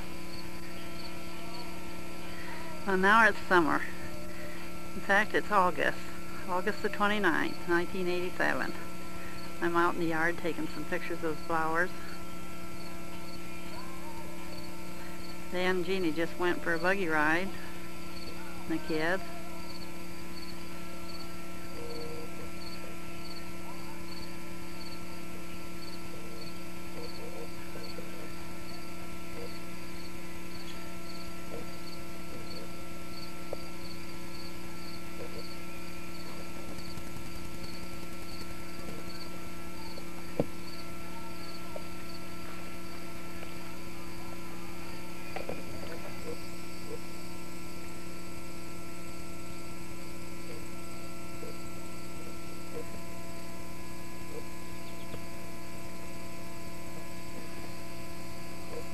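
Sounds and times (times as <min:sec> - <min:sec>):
electrical hum: 0:00.0 - 0:58.9.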